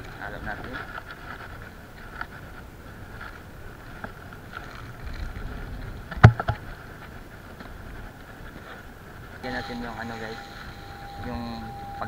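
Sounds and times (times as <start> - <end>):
wind noise on microphone: 0.0 - 12.0.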